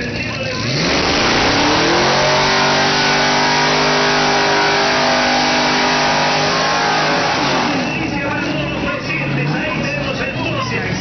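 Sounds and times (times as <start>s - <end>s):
car engine at high revs: 0.0s - 10.1s
tyres spinning on track: 0.0s - 11.0s.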